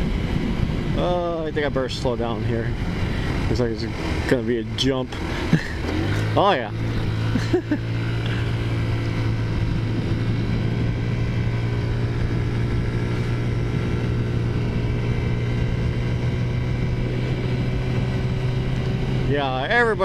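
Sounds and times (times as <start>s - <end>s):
scooter engine cruising: 0.0s - 20.0s.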